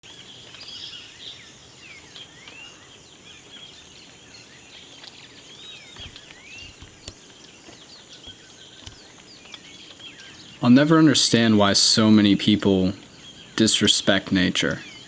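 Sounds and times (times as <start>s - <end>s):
insect drone: 0.1s - 15.0s
birds whistling: 0.2s - 15.0s.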